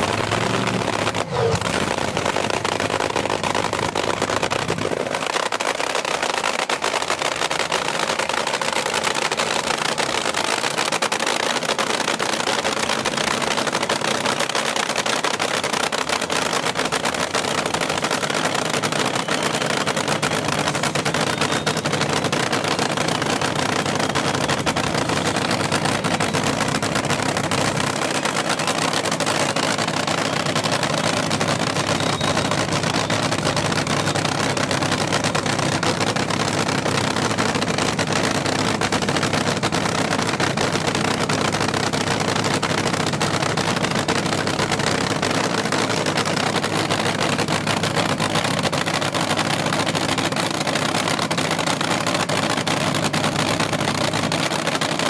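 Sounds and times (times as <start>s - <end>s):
dragster engine crackling: 0.0s - 55.0s.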